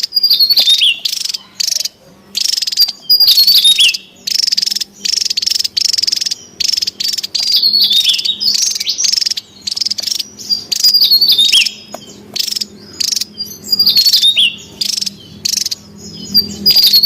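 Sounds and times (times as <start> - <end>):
bird buzzy trills: 0.0 - 17.0
faint low hum: 0.0 - 17.0.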